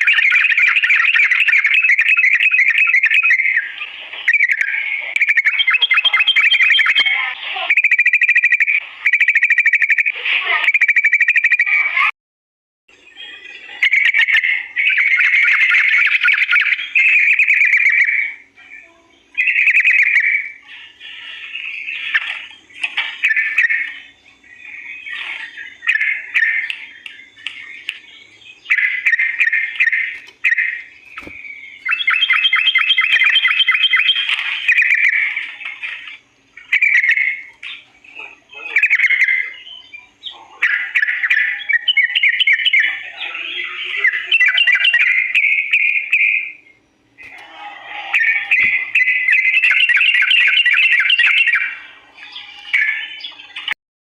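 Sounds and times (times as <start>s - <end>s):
bulbul singing with rolling trills: 0.0s - 11.8s, 12.9s - 53.8s.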